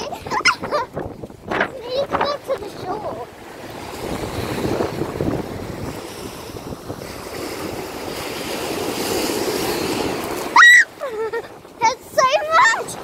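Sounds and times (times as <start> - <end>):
surf washing on shore: 0.0 - 13.0
wind buffeting microphone: 0.0 - 13.0.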